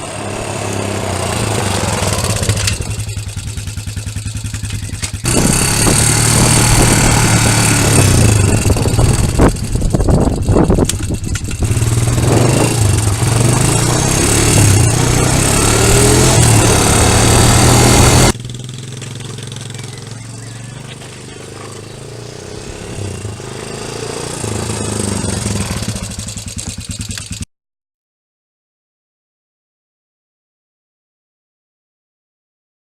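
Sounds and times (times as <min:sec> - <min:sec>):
quad bike engine running: 0:00.0 - 0:27.5.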